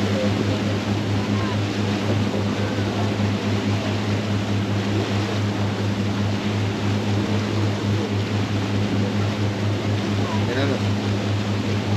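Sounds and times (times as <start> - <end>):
low engine hum: 0.0 - 11.9.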